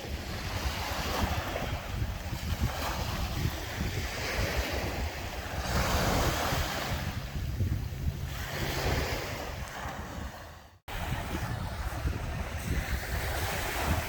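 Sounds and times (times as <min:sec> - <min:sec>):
sea waves washing ashore: 0:00.0 - 0:14.0
wind buffeting microphone: 0:00.0 - 0:14.0.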